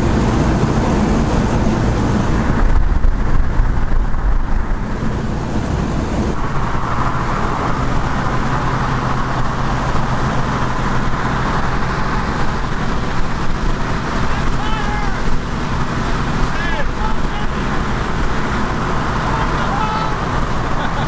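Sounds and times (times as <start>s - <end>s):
car engine humming: 0.0s - 21.0s
wind noise: 0.0s - 21.0s.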